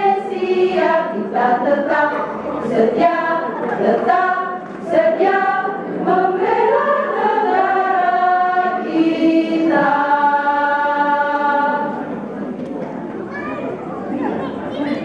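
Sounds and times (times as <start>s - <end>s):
women's choir singing: 0.0s - 12.6s.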